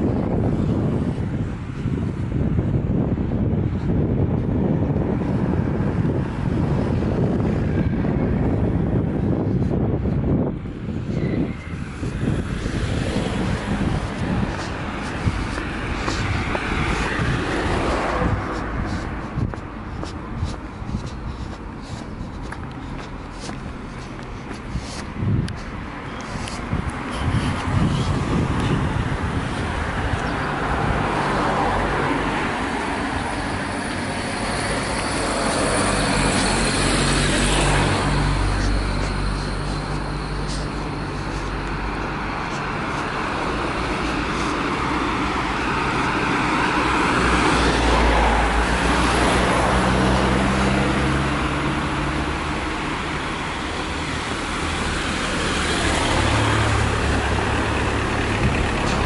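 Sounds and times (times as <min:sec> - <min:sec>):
cars driving past: 0:00.0 - 0:59.0.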